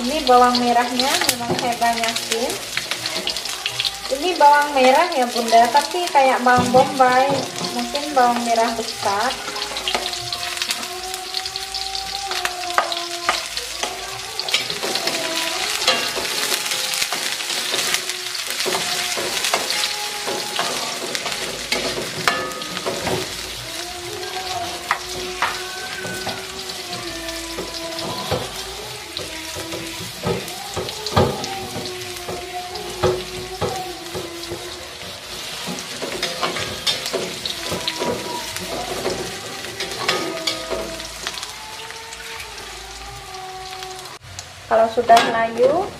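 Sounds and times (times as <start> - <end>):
food sizzling in hot oil: 0.0 - 45.9
spatula scraping a wok: 0.1 - 11.9, 12.7 - 41.5.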